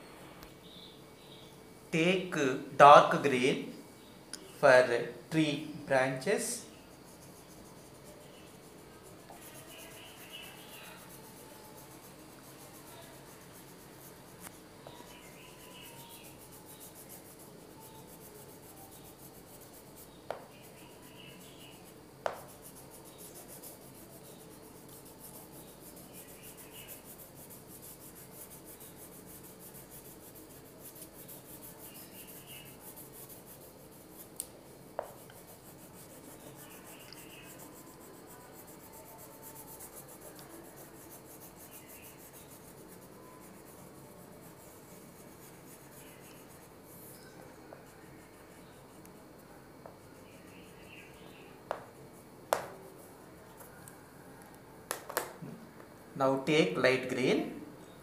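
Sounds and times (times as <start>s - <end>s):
crayon scratching on paper: 6.7s - 53.9s.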